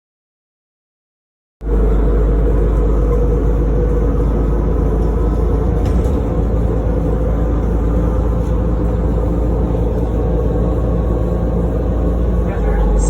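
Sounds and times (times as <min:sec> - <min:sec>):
bus engine and road rumble: 0:01.6 - 0:13.0.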